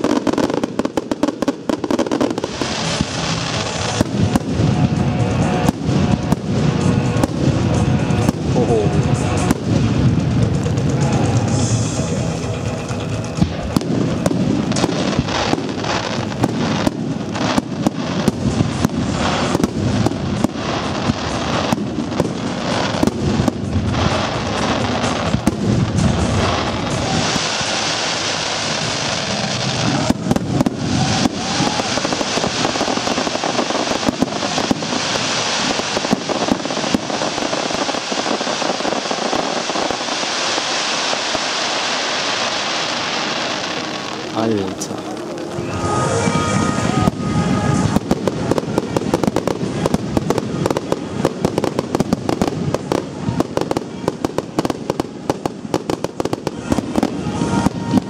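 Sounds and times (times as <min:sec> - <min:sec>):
firework bursts with heavy bangs: 0:00.0 - 0:58.0
fireworks crackling hiss: 0:00.0 - 0:58.0.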